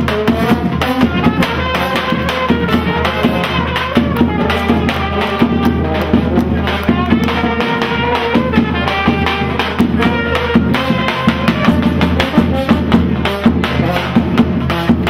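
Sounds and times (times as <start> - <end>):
brass band playing dance music: 0.0 - 15.0
steady drum beat: 0.0 - 15.0.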